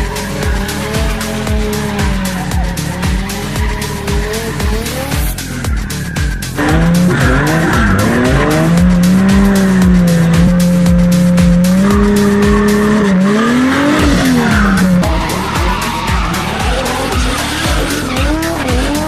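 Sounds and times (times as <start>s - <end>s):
car engine revving: 0.0s - 19.0s
music with thumping beat: 0.0s - 19.0s
tyres squealing and skidding: 0.0s - 19.0s.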